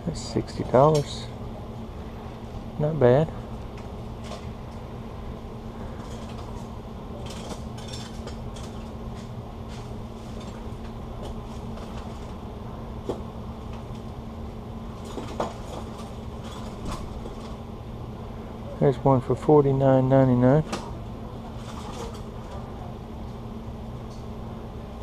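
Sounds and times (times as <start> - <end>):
low hum of store background: 0.0 - 25.0.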